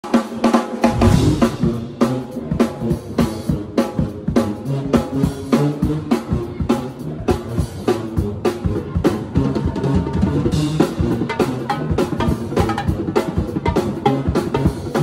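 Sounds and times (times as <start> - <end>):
drum kit played fast: 0.0 - 15.0.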